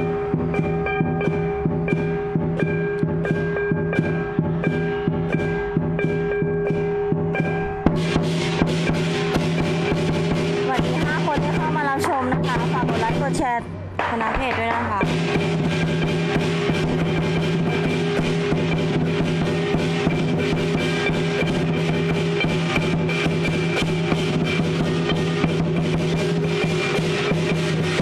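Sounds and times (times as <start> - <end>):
clashing cymbals: 0.0 - 28.0
drum beaten rapidly: 0.0 - 28.0
steady ringing tones: 0.0 - 28.0.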